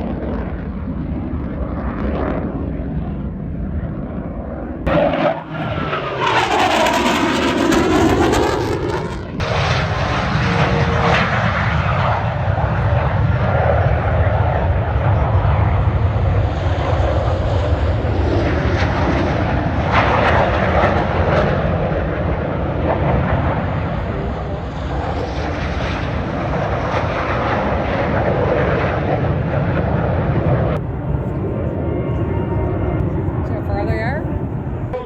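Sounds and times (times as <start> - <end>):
airplane engine roar: 0.0 - 35.0.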